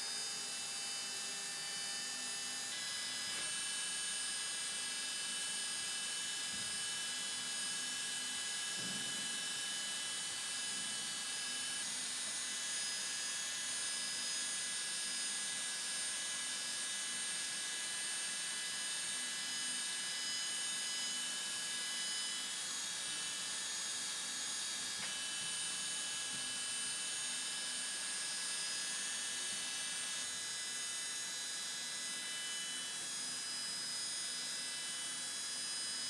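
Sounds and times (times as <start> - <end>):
milling machine whine: 0.0 - 14.4, 18.1 - 34.7.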